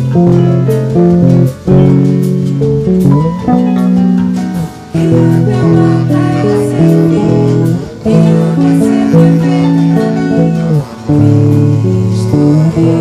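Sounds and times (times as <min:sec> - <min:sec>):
guitar playing chords: 0:00.0 - 0:13.0.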